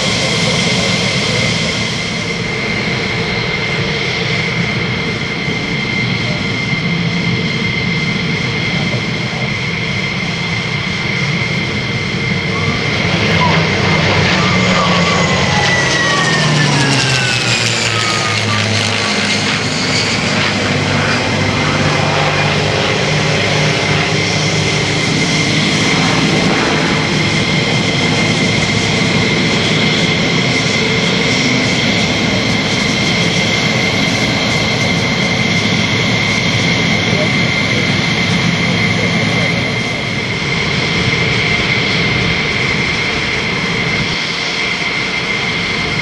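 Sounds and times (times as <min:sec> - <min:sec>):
high jet engine whine: 0:00.0 - 0:46.0
jet aircraft passing overhead: 0:00.0 - 0:46.0.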